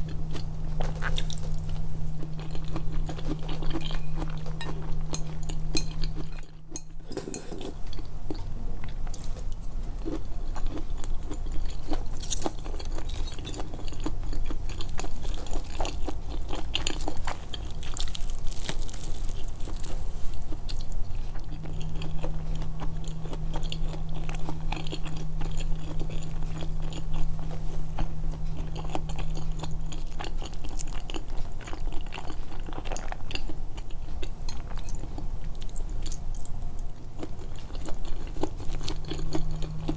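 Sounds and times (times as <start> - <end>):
chewing and biting food: 0.0 - 39.9
steady low hum: 0.0 - 39.9.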